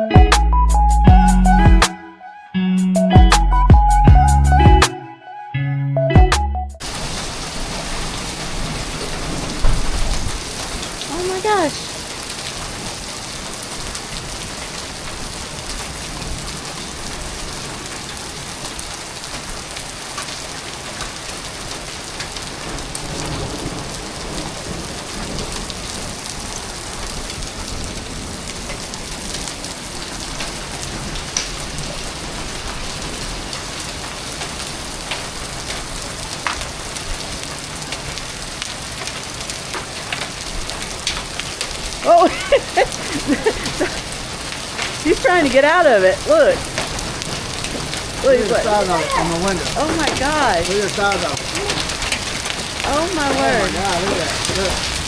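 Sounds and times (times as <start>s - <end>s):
hail and heavy rain: 6.8s - 55.0s
hailstones clicking on hard surfaces: 6.8s - 55.0s.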